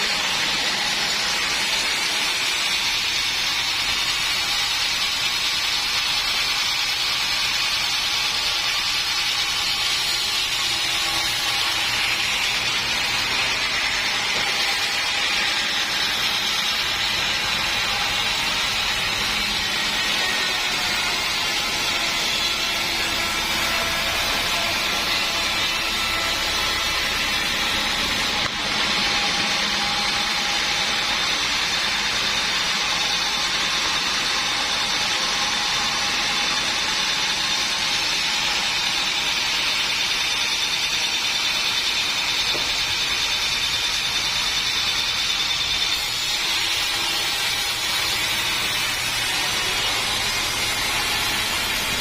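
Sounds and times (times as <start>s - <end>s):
sawmill saw running: 0.0s - 52.0s.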